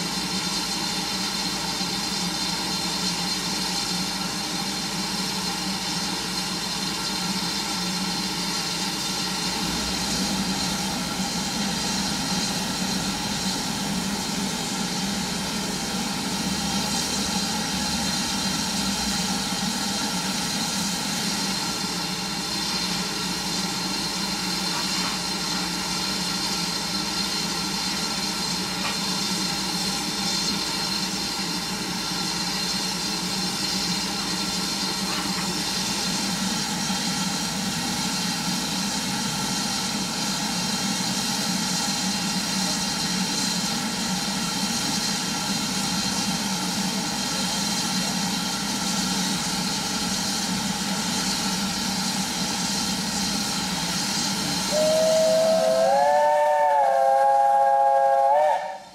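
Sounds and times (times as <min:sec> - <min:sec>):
escaping steam hissing: 0:00.0 - 0:58.9.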